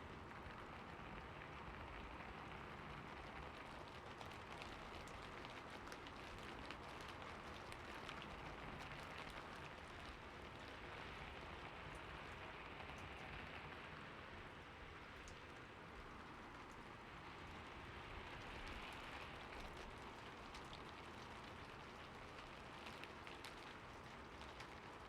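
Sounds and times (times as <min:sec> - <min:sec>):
steady rain patter: 0:00.0 - 0:25.0.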